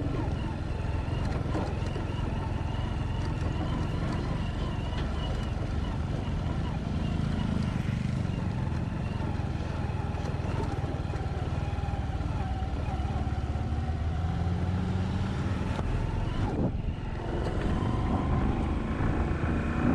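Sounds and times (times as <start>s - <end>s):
road noise: 0.0s - 19.9s
vehicle engine running: 0.0s - 19.9s.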